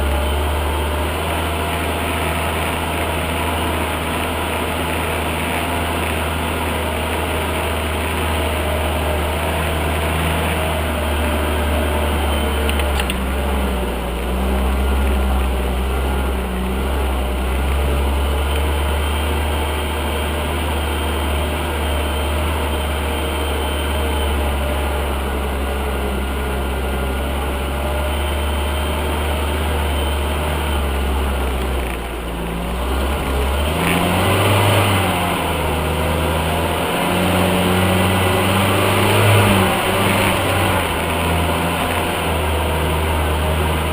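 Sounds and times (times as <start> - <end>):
off-road vehicle engine running: 0.0 - 43.9.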